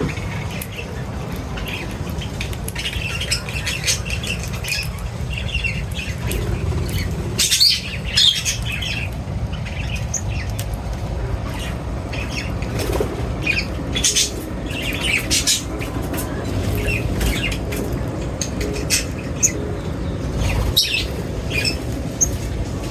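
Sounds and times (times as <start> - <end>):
birds chirping and squawking: 0.0 - 22.9
steady low rumble: 0.0 - 22.9.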